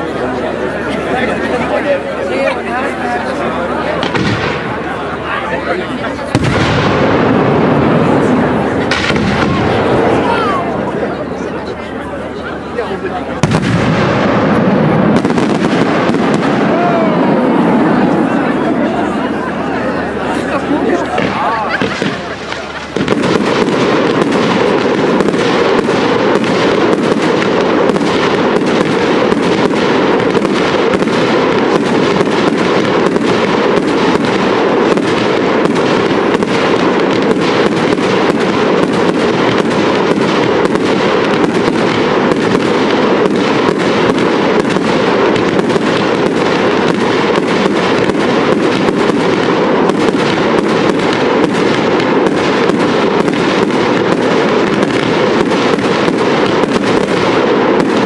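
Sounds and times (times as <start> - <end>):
fireworks bangs and pops: 0.0 - 11.4, 12.7 - 18.7, 20.3 - 58.0.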